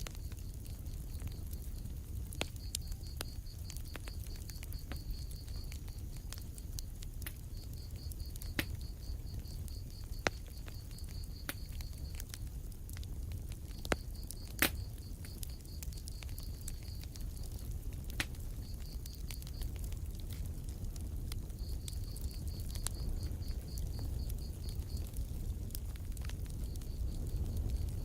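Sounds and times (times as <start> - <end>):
fire crackling pops: 0.0 - 28.0
fire rumbling: 0.0 - 28.0.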